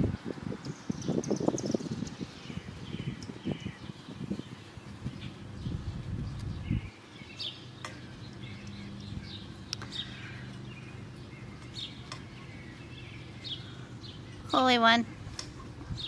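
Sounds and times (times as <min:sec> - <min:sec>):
bird chirps: 0:00.6 - 0:16.0
steady low hum: 0:02.0 - 0:16.0.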